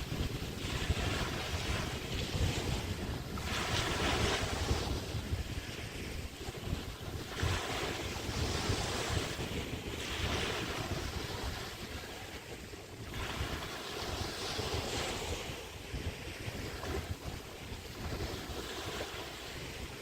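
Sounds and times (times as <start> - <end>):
waves washing onto beach: 0.0 - 20.0
wind on microphone: 0.0 - 20.0.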